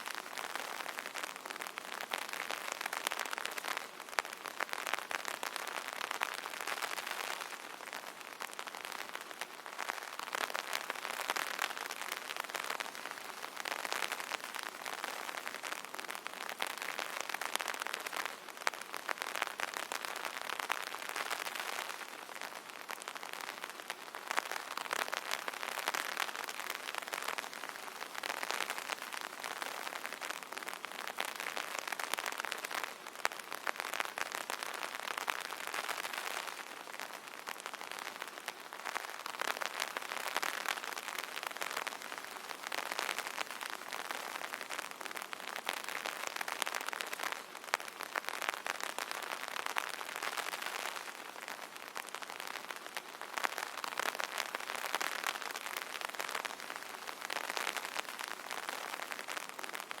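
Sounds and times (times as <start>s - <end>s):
rain pattering on an umbrella: 0.0s - 60.0s.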